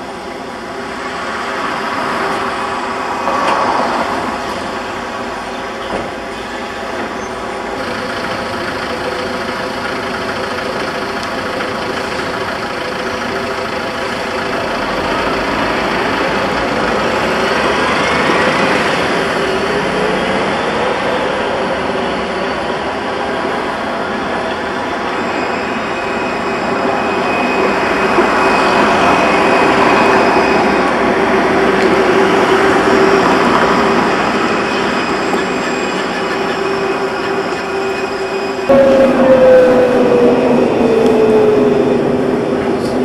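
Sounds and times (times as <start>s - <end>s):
electric tram rumbling: 0.0s - 43.0s
traction motor whine: 0.0s - 43.0s.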